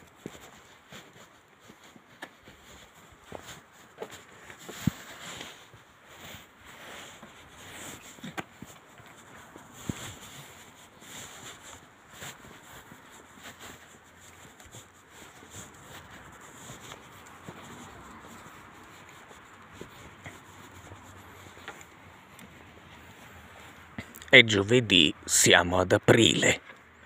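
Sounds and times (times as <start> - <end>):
footsteps on concrete: 0.0 - 24.3.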